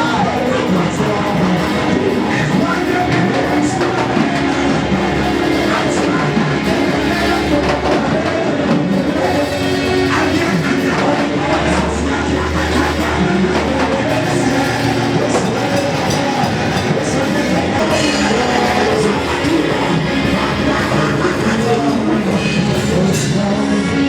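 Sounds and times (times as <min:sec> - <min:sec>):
drums: 0:00.0 - 0:24.0
guitar: 0:00.0 - 0:24.0
worship band playing: 0:00.0 - 0:24.0.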